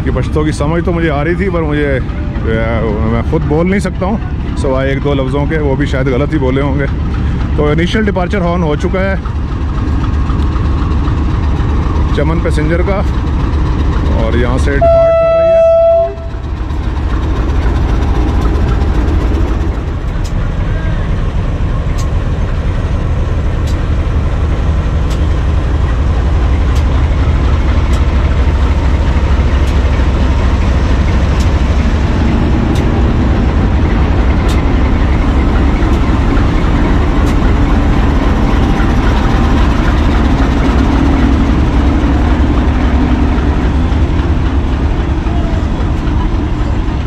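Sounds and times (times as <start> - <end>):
diesel locomotive engine rumbling: 0.0 - 47.0.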